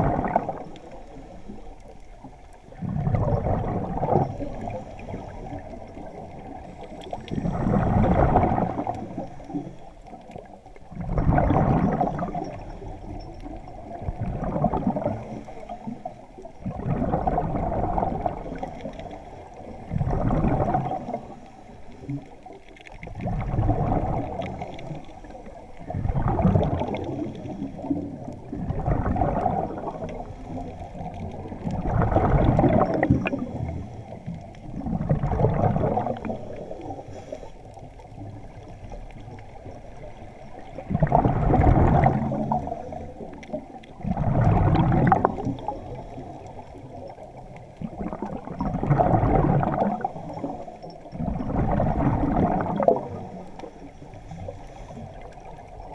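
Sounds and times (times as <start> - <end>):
breath bubbling underwater: 0.0 - 1.0, 2.7 - 9.7, 10.4 - 12.9, 13.7 - 21.4, 22.9 - 37.0, 40.7 - 55.9
water noise: 0.0 - 55.9.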